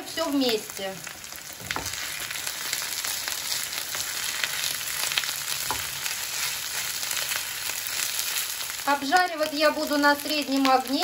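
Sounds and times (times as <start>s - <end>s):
mushrooms and onion frying: 0.0s - 11.0s.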